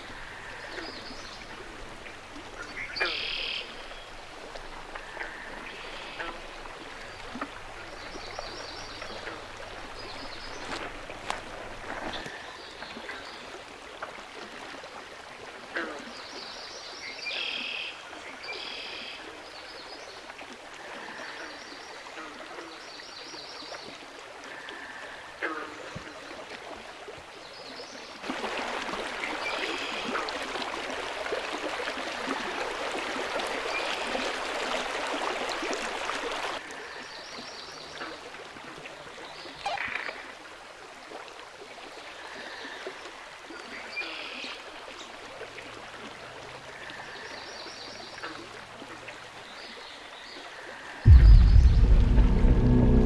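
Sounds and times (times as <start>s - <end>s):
stream running: 0.0s - 53.0s.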